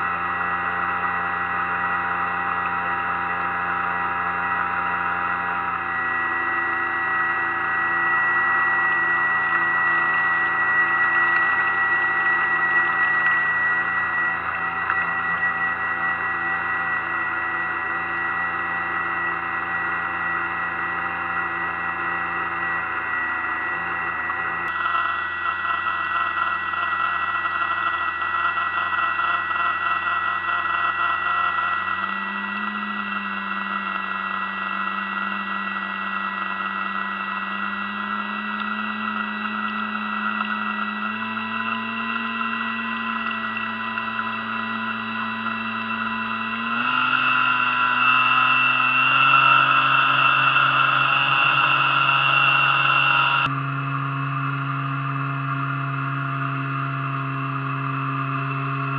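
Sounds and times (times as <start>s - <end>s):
electric motor whine: 0.0s - 58.9s.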